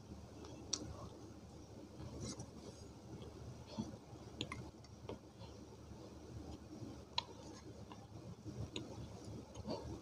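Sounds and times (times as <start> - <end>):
soft chewing: 0.4 - 10.0.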